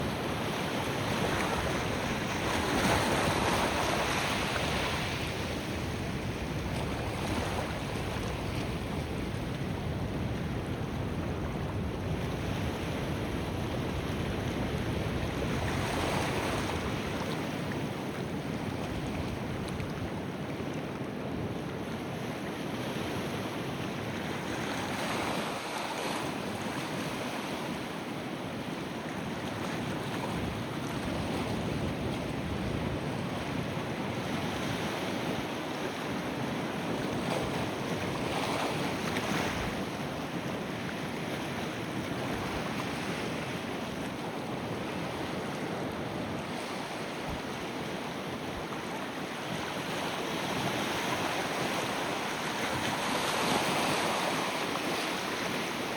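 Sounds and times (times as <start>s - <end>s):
wind buffeting microphone: 0.0s - 22.2s, 29.6s - 55.9s.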